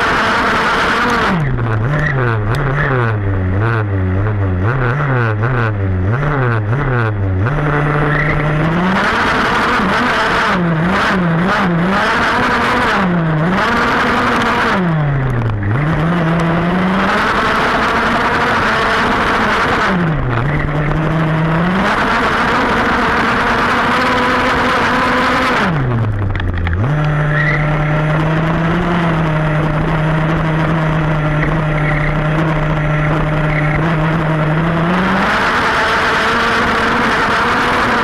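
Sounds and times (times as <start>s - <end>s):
small two-stroke engine revving: 0.0s - 38.0s.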